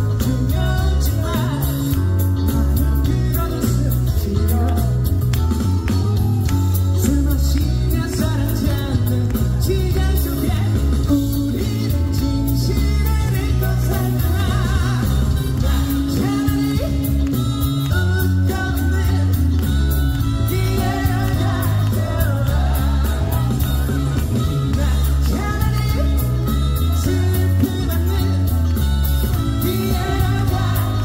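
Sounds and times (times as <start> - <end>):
loud pop accompaniment: 0.0 - 31.0
man singing live: 0.0 - 31.0.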